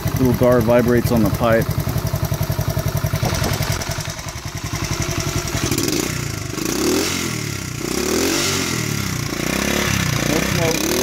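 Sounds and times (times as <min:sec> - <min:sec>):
small engine idling and revving: 0:00.0 - 0:11.0.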